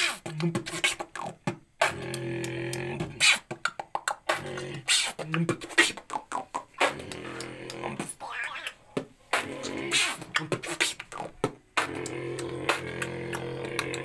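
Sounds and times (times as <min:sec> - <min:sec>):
person beatboxing: 0:00.0 - 0:14.0.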